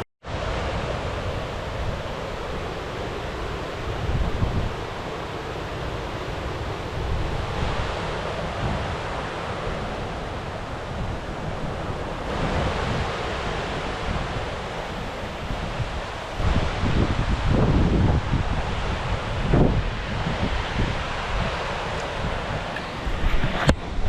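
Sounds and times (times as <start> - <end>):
mountain stream rushing: 0.3 - 24.0
wind buffeting microphone: 0.3 - 24.0.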